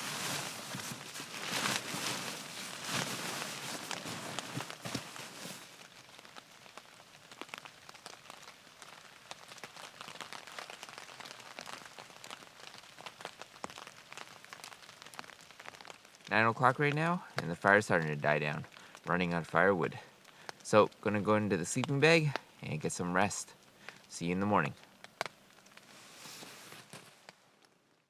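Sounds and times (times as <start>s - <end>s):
drops ticking on tarp: 0.0s - 27.8s
rain pattering on a tarp: 0.0s - 28.0s.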